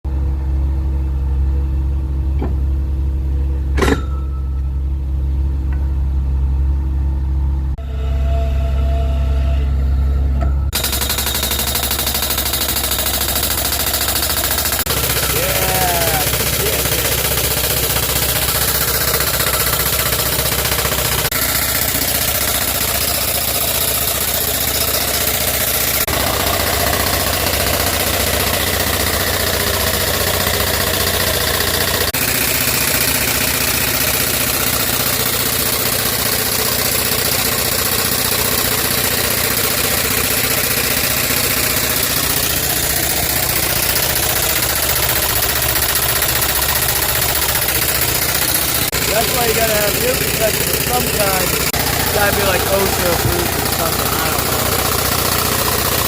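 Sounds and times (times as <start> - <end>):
drill rig running: 7.8 - 56.0.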